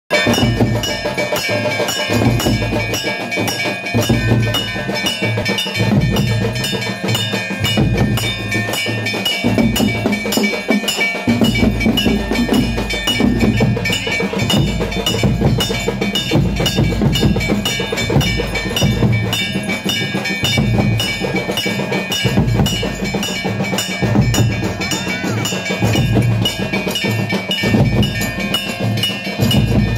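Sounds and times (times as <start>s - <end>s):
bells ringing: 0.1s - 29.9s
drums beating: 0.1s - 29.9s.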